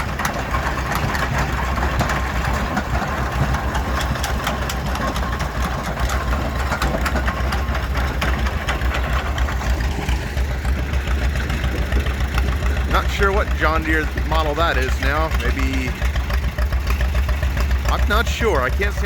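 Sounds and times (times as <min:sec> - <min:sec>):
engine idling with chug: 0:00.0 - 0:19.0.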